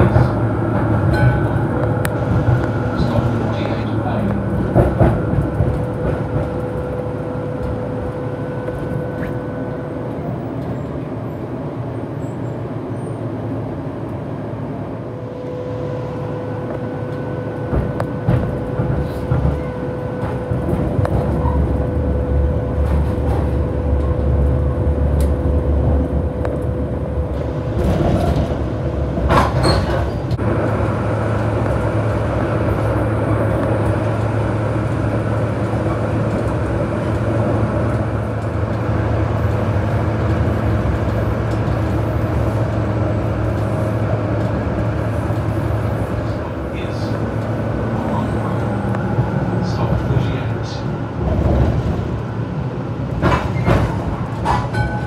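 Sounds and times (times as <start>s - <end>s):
tram wheels rumbling on rail: 0.0s - 55.0s.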